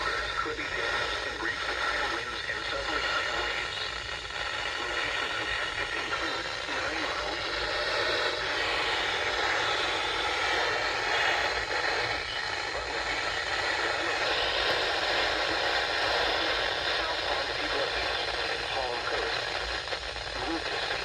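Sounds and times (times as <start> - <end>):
faint voice: 0.0 - 21.0
radio static hiss: 0.0 - 21.0.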